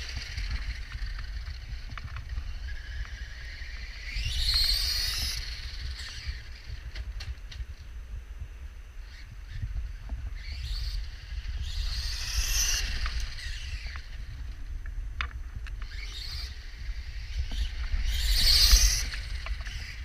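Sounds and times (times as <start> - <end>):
rc truck motor and tyres: 0.0 - 20.0
wind buffeting microphone: 0.0 - 20.0.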